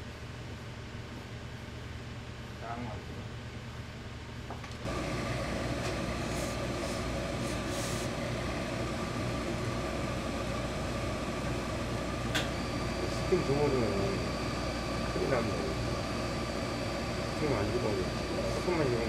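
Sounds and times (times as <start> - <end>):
workshop machine hum: 0.0 - 19.0.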